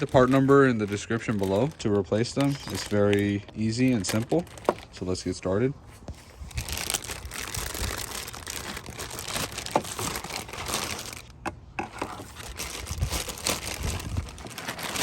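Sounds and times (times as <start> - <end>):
hard plastic crinkling: 0.0 - 15.0.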